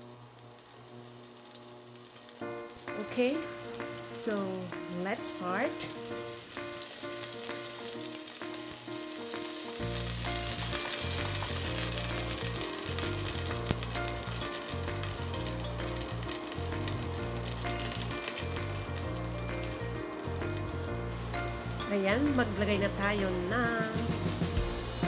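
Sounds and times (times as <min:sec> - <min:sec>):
fat sizzling in a pot: 0:00.0 - 0:25.0.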